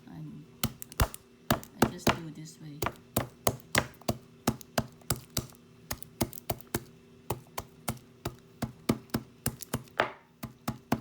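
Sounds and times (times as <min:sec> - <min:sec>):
knife chopping on cutting board: 0:00.6 - 0:11.0.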